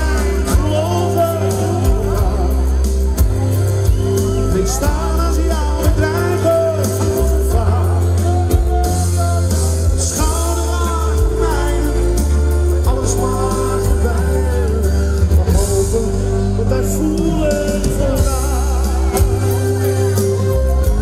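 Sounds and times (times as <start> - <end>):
man singing into microphone: 0.0 - 3.0, 4.2 - 20.0.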